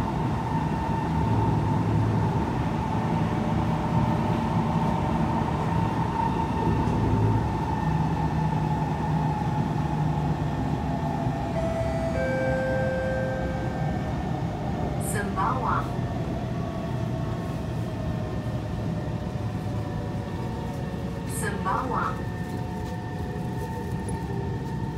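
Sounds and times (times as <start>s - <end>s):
train wheel and running noise: 0.0s - 24.9s.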